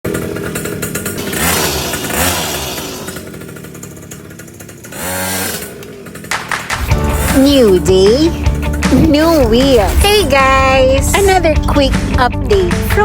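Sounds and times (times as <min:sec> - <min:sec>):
small two-stroke engine revving: 0:00.0 - 0:12.1.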